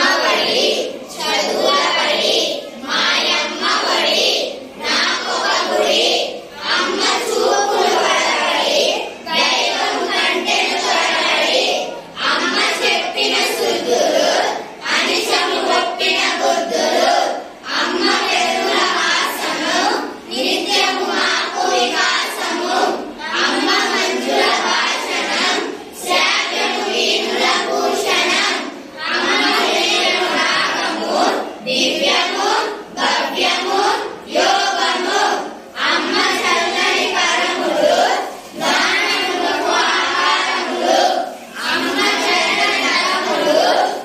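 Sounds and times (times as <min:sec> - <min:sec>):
children singing in unison: 0:00.0 - 0:44.0.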